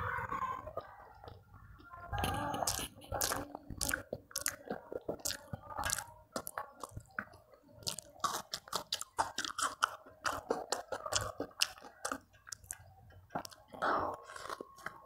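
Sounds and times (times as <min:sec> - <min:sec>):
person chewing food: 0:00.7 - 0:15.0
crunchy bites: 0:02.2 - 0:15.0
wet mouth clicks and smacks: 0:02.2 - 0:15.0.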